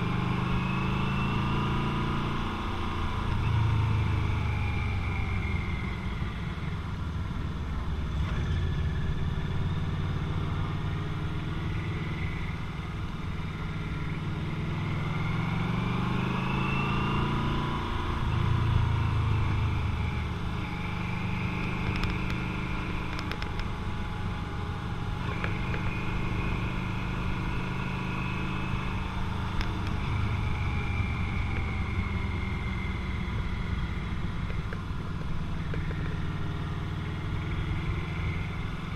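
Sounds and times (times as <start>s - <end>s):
motorcycle engine running: 2.1s - 38.9s.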